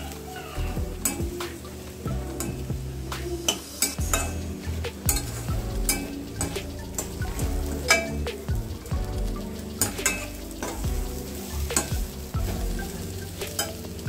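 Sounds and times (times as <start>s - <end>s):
leaves sizzling in oil: 0.0s - 14.0s.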